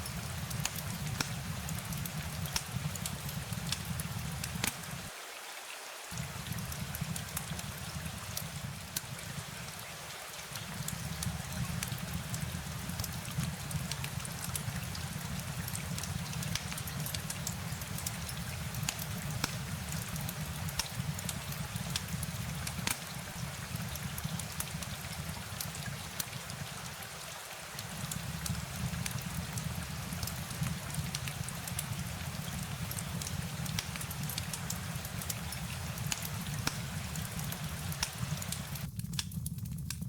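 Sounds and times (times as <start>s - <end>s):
rain drops ticking: 0.0s - 5.2s, 5.9s - 40.0s
rain hiss: 0.0s - 39.2s.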